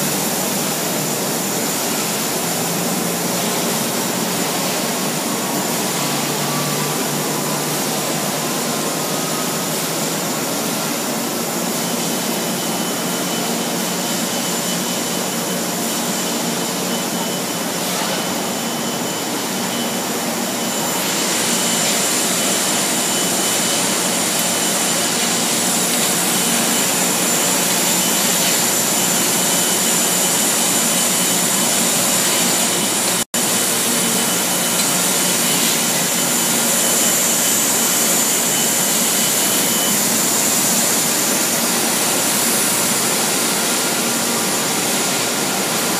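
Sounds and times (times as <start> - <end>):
thin high whine: 0.0 - 45.9
wire drawing machine running: 0.0 - 45.9.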